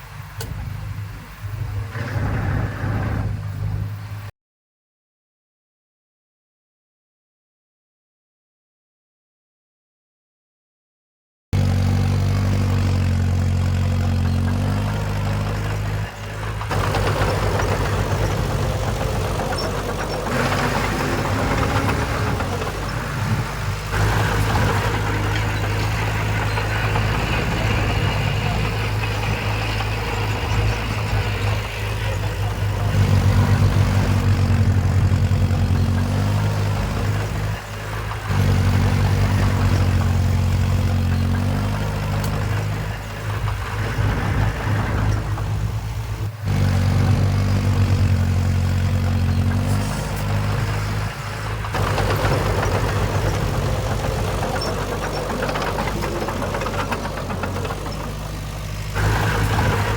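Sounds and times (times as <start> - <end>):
heavy machinery diesel engine: 0.0 - 4.3, 11.6 - 59.9
rattling noise: 0.3 - 4.2, 12.5 - 59.9.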